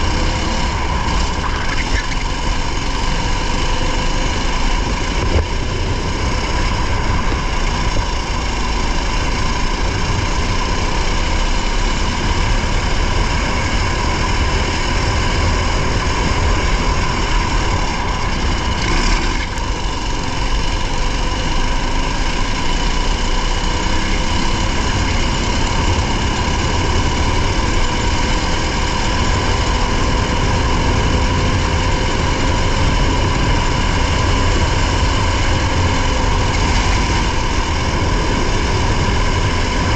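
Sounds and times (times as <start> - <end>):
racing engine droning: 0.0 - 39.9.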